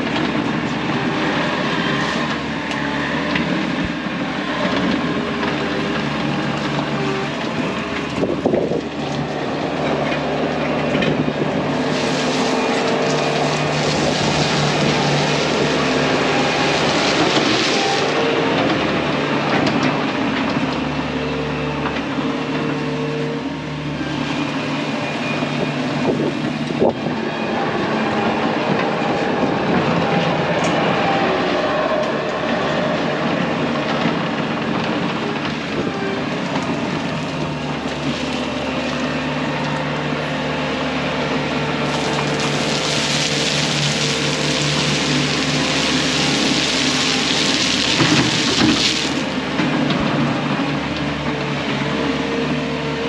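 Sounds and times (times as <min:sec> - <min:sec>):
track loader diesel engine: 0:00.0 - 0:53.0.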